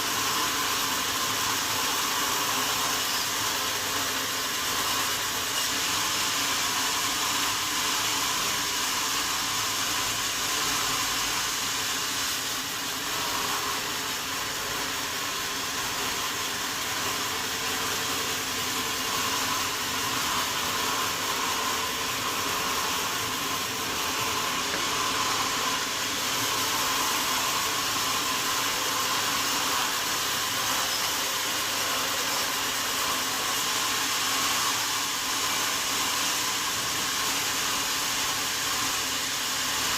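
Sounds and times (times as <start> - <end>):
sawmill saw whirring: 0.0 - 39.9.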